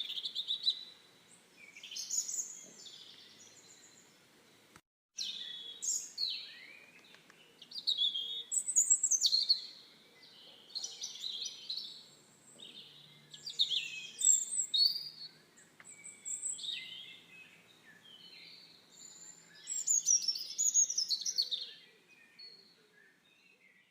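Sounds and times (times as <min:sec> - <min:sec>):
songbirds singing: 0:00.0 - 0:23.9.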